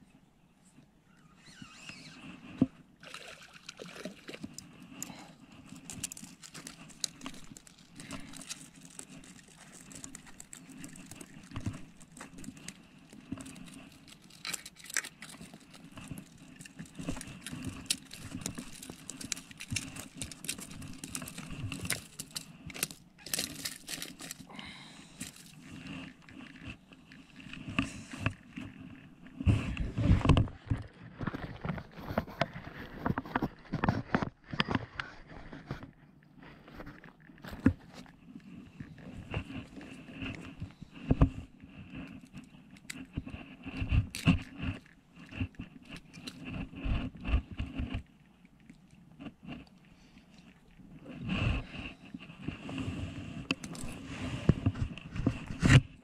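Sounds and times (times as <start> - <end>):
clicks and scrapes on rock: 4.0 - 56.0.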